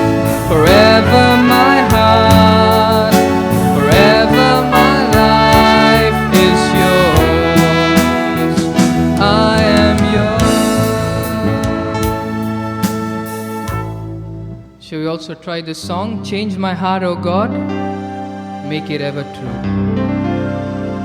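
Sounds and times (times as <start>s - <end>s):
instrumental worship music: 0.0s - 21.0s.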